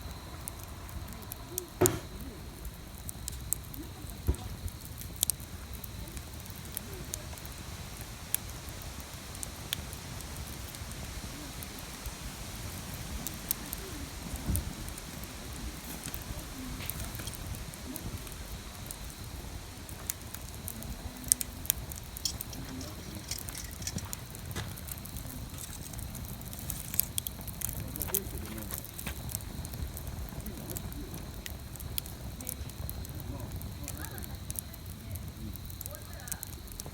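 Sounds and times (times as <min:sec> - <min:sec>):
wood fire crackling and popping: 0:00.0 - 0:36.9.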